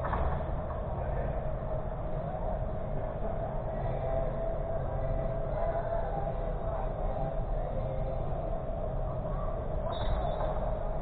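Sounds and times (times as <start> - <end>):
sports hall hum and hiss: 0.0 - 11.0.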